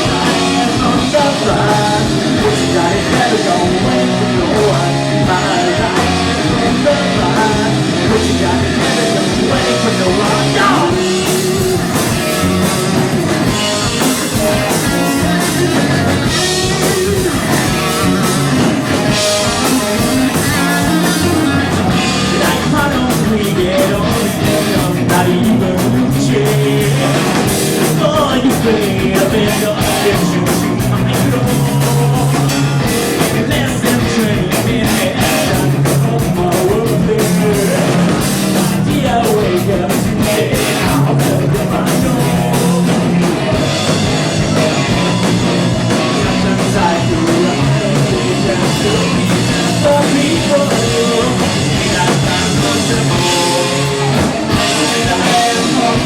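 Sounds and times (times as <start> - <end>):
drums: 0.0 - 56.0
electric guitar: 0.0 - 56.0
person singing: 0.0 - 56.0.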